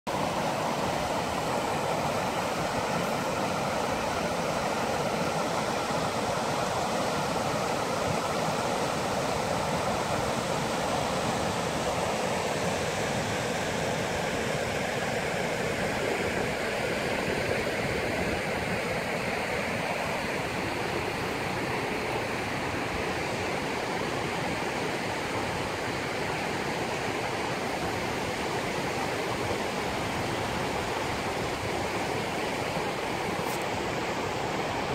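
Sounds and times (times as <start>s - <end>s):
river rushing over stones: 0.1s - 34.9s.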